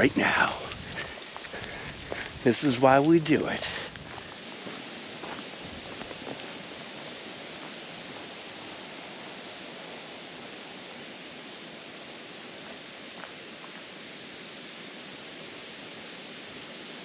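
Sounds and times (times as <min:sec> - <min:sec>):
breeze rustling leaves: 0:00.0 - 0:17.0.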